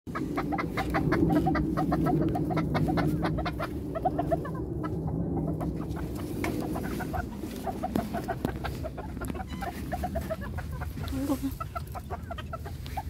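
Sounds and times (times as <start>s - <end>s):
chickens clucking: 0.1s - 13.0s
steady low hum: 0.1s - 13.0s.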